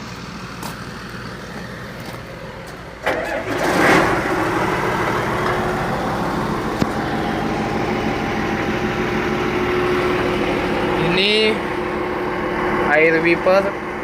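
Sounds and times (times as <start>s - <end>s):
heavy machinery engine running: 0.0s - 14.0s.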